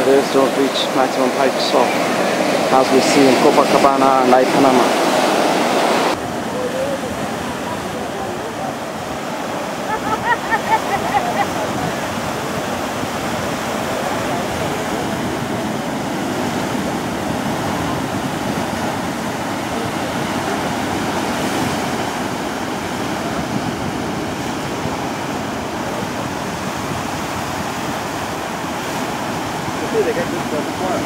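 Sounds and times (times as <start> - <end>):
surf breaking over rocks: 0.0 - 31.0.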